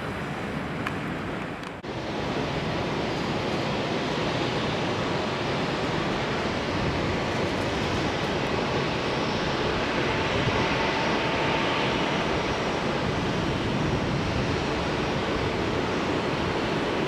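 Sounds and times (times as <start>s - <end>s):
distant jet engine roar: 0.0s - 17.0s.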